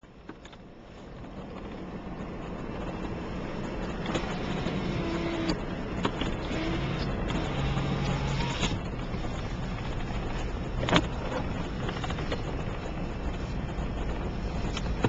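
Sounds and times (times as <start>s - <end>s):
motor vehicle running: 0.1s - 15.0s.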